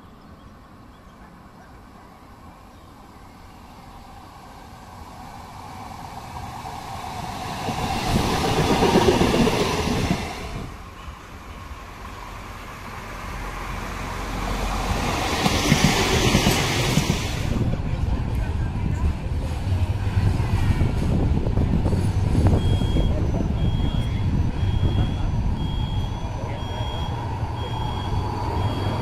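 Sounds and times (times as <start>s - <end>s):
electric tram rolling on rails: 0.0s - 29.0s.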